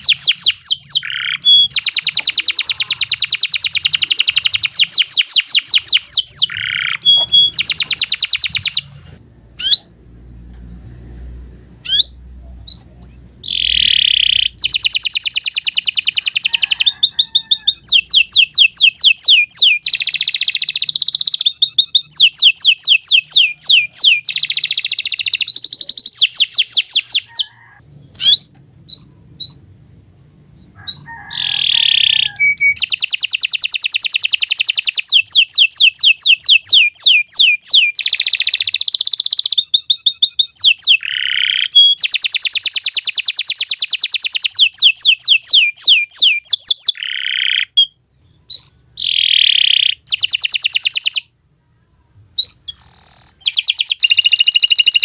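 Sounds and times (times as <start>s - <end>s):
canary singing trills: 0.0s - 8.9s, 9.6s - 10.0s, 11.8s - 29.7s, 30.5s - 51.3s, 52.4s - 55.0s.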